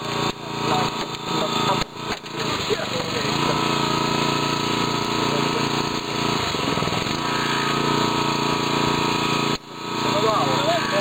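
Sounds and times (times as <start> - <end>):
hydraulic power unit running: 0.0 - 11.0.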